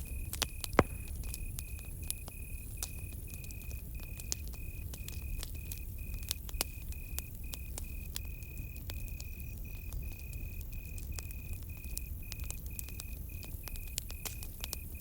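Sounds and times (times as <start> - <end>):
campfire crackling and popping: 0.0 - 15.0
cricket chirping: 0.0 - 15.0.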